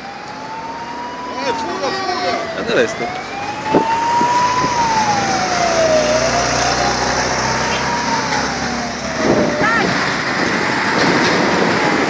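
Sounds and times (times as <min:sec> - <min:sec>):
fire engine siren wailing: 0:00.0 - 0:12.0
traffic and engine noise: 0:00.0 - 0:12.0.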